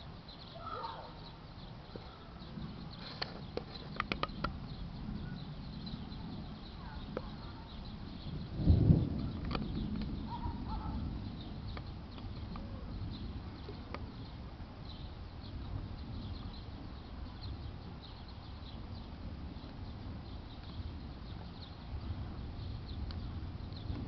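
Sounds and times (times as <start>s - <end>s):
small birds chirping: 0.0s - 24.0s
thunder rumbling: 3.8s - 18.0s, 18.6s - 24.0s.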